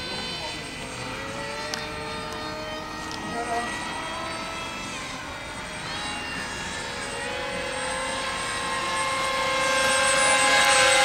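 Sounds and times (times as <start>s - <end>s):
model airplane motor whine: 0.0s - 11.0s.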